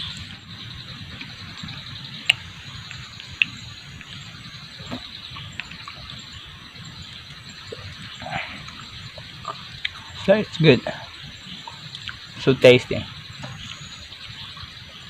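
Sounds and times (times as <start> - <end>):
high drone of insects: 0.0 - 15.0.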